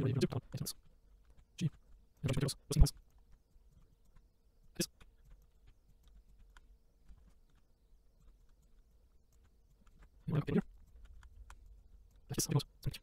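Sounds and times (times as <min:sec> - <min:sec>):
mouse and keyboard clicks: 0:00.2 - 0:13.0.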